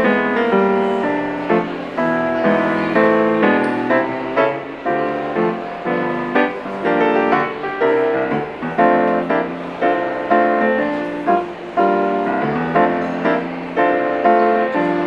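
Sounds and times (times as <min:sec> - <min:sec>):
piano chords and notes: 0:00.0 - 0:15.0.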